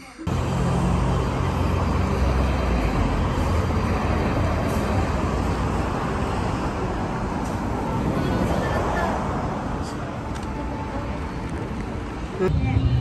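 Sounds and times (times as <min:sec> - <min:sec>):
road noise from passing vehicles: 0:00.2 - 0:13.0
low engine rumble: 0:00.3 - 0:13.0.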